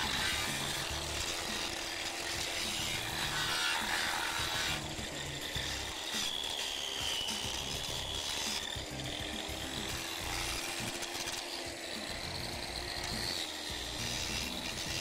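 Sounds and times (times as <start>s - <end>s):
angle grinder motor whine: 0.0s - 15.0s
blade rasping on concrete: 0.0s - 15.0s.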